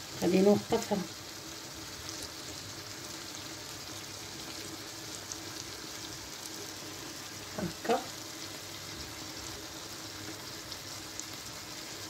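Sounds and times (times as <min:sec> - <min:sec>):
food sizzling in a clay pot: 0:00.0 - 0:12.0.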